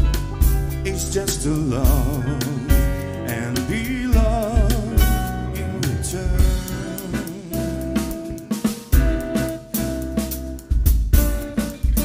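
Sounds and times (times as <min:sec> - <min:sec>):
jazz band playing a ballad: 0:00.0 - 0:12.0
low drum beats: 0:00.0 - 0:12.0
vibrato lead melody: 0:00.0 - 0:12.0.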